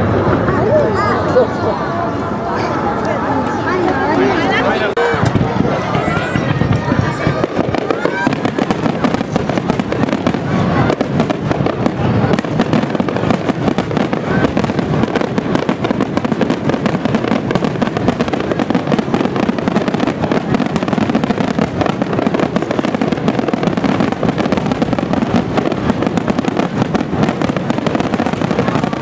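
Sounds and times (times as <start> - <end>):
fireworks barrage crackling: 0.0 - 29.0.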